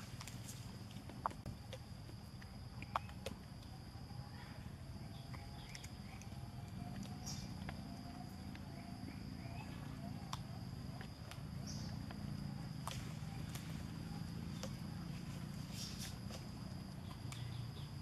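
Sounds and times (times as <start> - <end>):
steady high-pitched buzz: 0.0 - 18.0.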